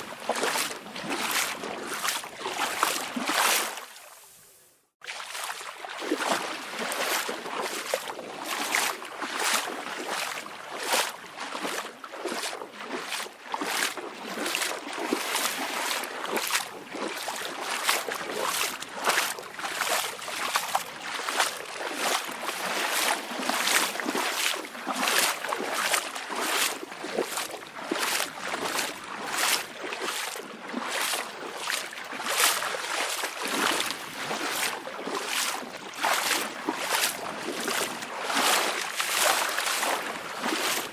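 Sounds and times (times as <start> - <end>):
small waves lapping and splashing: 0.0 - 40.9.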